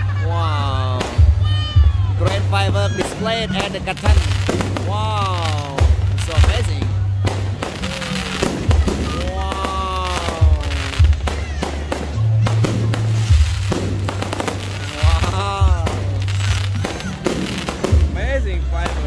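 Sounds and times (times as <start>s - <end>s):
music with steady bass line: 0.0s - 19.0s
fireworks bangs and crackles: 0.1s - 19.0s.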